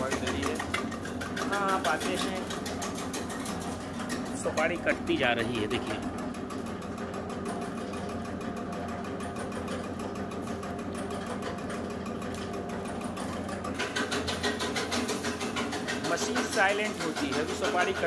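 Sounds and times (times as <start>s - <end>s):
cutting machine clatter: 0.0s - 18.0s.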